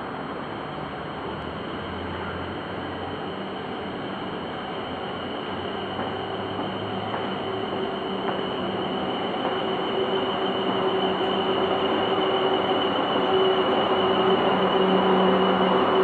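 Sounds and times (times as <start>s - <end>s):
electric train rumbling on track: 0.0s - 16.0s.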